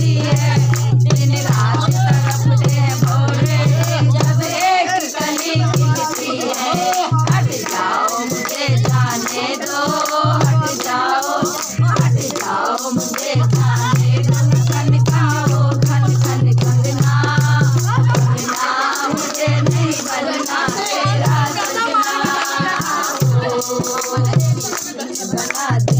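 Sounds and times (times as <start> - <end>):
dholak drum beat: 0.0 - 25.9
woman singing: 0.0 - 25.9.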